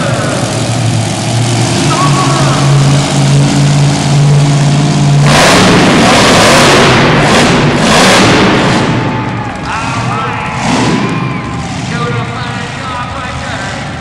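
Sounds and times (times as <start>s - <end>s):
loud rushing noise: 0.0s - 14.0s
truck engine running: 0.0s - 14.0s.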